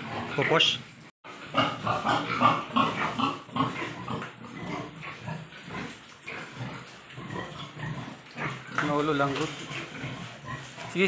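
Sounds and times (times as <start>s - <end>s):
pig grunting: 0.0s - 11.0s.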